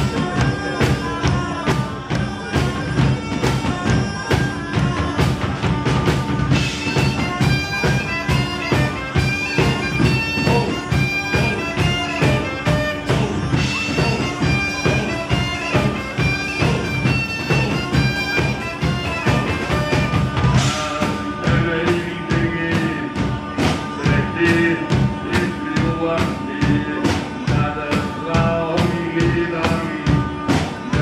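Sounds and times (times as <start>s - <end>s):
bagpipes playing a melody: 0.0s - 31.0s
large drums beating: 0.0s - 31.0s.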